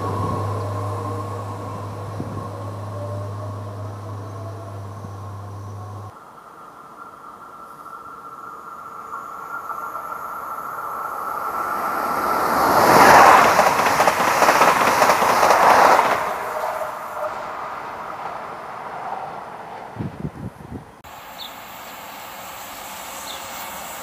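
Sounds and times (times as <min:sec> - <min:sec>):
train wheels on rails: 0:00.0 - 0:06.1, 0:09.1 - 0:20.3, 0:21.1 - 0:24.0.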